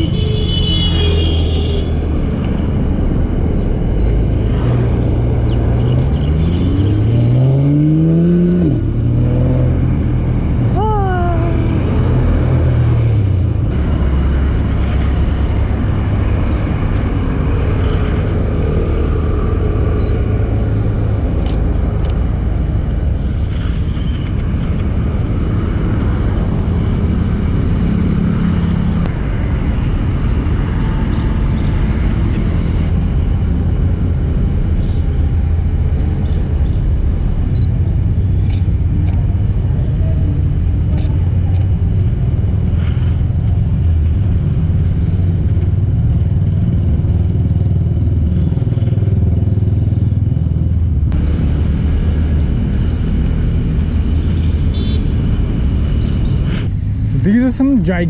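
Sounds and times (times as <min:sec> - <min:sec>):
passing cars and motorbikes: 0:00.0 - 0:58.0.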